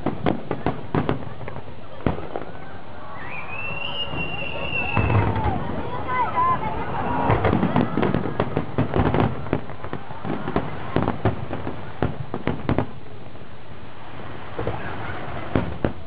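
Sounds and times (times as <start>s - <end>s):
fireworks bursting bangs: 0.0s - 16.0s.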